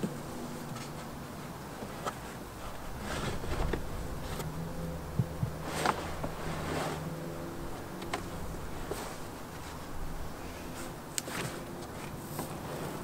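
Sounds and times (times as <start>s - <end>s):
faint steady hum: 0.0s - 13.0s
fibreboard scraping and rustling: 0.0s - 13.0s.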